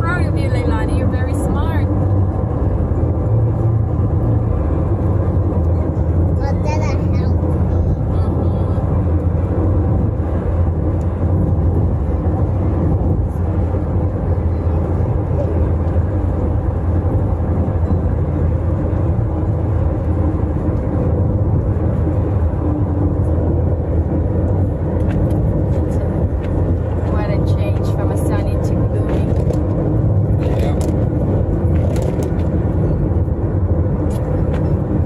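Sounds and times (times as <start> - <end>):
road and engine rumble inside car: 0.0 - 35.0.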